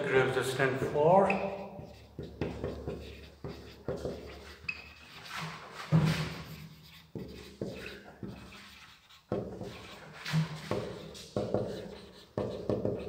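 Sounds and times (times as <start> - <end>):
marker scratching on whiteboard: 0.8 - 13.0.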